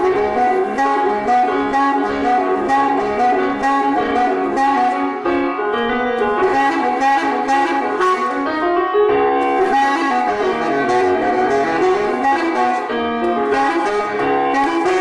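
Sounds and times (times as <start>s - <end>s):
instrumental accompaniment: 0.0s - 15.0s
saxophone melody: 0.0s - 15.0s.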